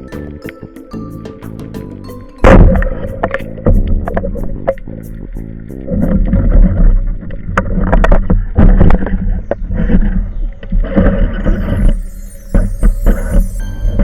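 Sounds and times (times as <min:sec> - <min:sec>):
boat engine low rumble: 0:01.8 - 0:14.0.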